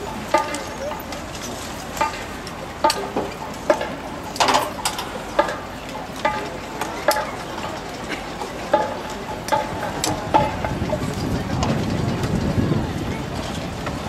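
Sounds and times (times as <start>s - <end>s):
carts knocking and clanking: 0.0s - 14.0s.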